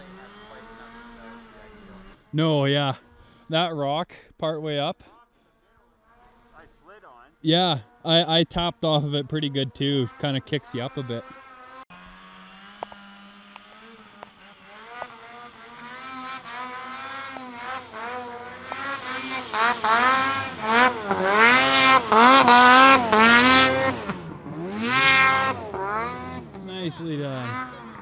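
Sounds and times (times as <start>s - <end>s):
snowmobile engine revving: 0.0s - 4.0s, 6.4s - 28.0s.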